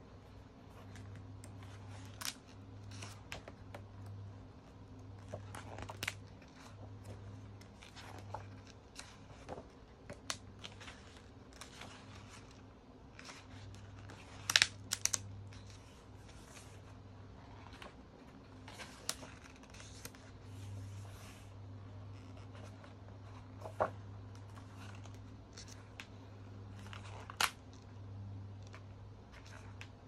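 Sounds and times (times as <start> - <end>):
faint low hum: 0.0 - 30.0
magazine pages rustling: 0.8 - 4.2, 5.0 - 27.8.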